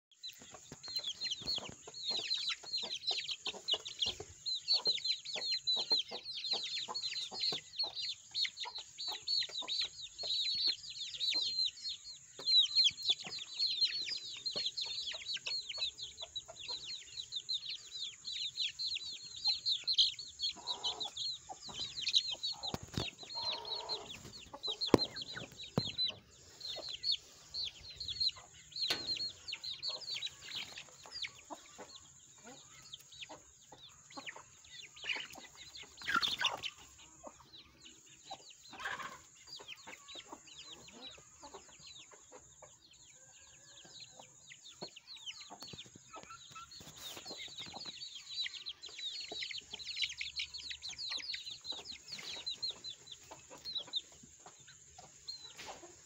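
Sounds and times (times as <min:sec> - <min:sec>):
chicks peeping: 0:00.1 - 0:56.0.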